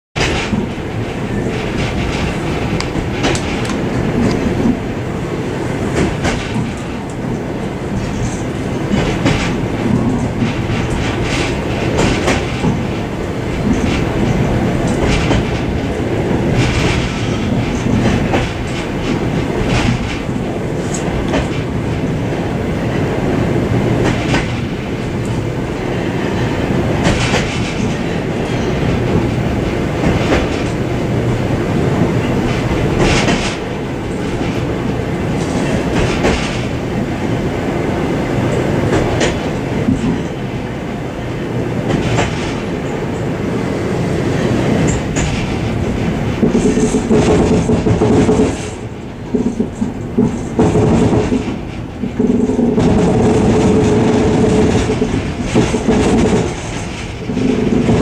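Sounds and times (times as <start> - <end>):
clickety-clack over rail joints: 0.2 - 58.0
train wheels rumbling on rails: 0.2 - 58.0.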